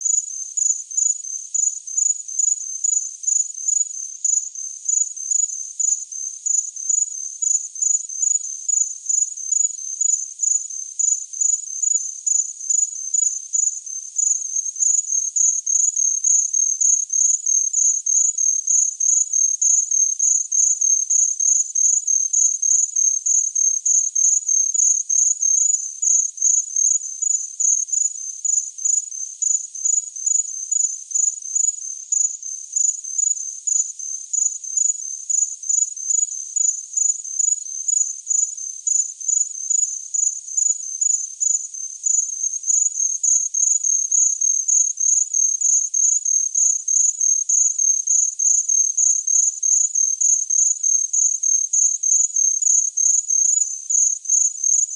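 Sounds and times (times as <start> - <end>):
cricket chirping: 0.0 - 54.9.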